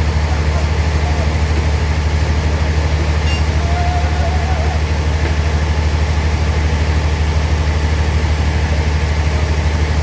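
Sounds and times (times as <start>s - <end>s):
sawmill engine drone: 0.0s - 10.0s.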